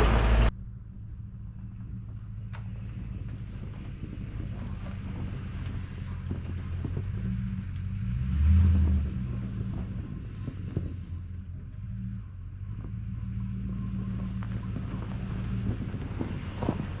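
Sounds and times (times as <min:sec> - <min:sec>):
snow machine engine running: 0:00.0 - 0:17.0.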